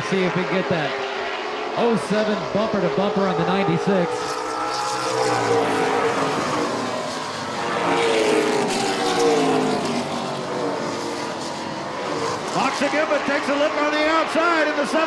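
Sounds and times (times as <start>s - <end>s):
race car engines at high revs: 0.0s - 15.0s.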